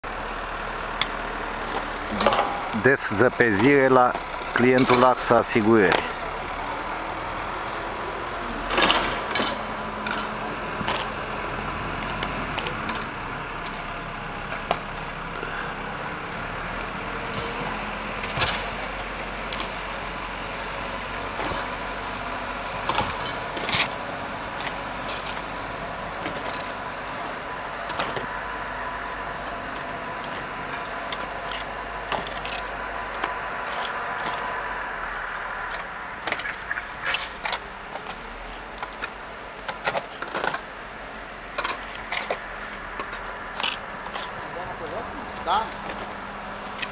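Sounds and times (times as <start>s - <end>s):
steady background hum: 0.2s - 46.9s
snow shovels scraping and knocking: 1.5s - 6.8s, 8.4s - 20.1s, 22.8s - 28.4s, 29.0s - 34.6s, 35.2s - 40.8s, 41.5s - 46.9s.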